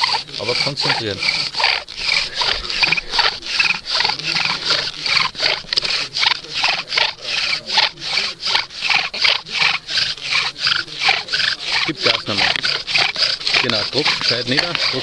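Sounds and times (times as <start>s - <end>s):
wooden spindle grinding and squeaking: 0.0s - 15.0s.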